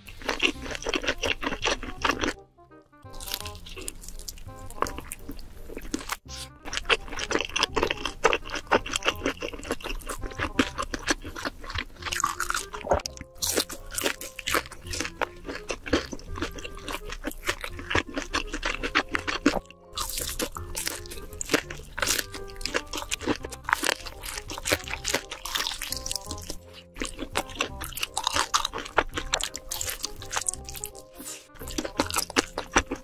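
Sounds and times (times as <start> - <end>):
crunching and chewing fried chicken: 0.0 - 2.4, 3.1 - 33.0
background music: 0.0 - 33.0.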